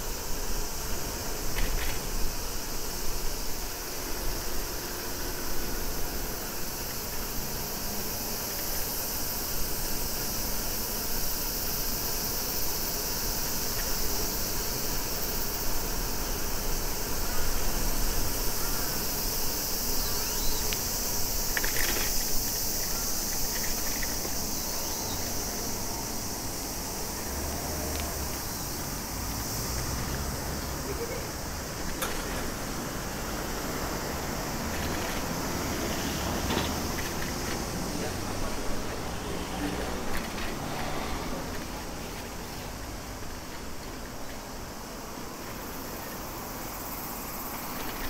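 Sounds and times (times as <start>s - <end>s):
cicadas chorus: 0.0s - 48.0s.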